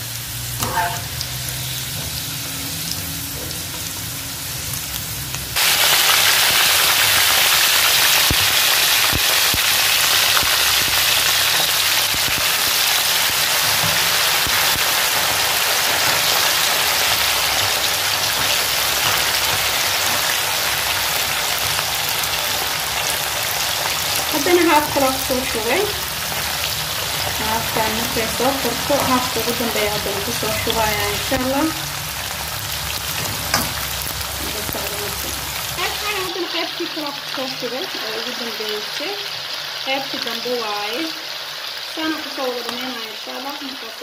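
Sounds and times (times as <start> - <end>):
oil sizzling with frying potatoes: 0.0 - 44.0.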